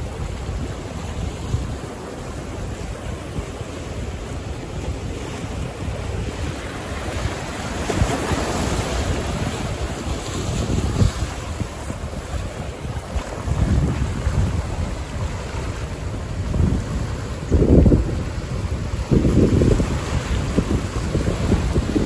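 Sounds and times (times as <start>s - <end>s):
sea waves breaking: 0.0s - 22.0s
wind buffeting microphone: 0.0s - 22.0s.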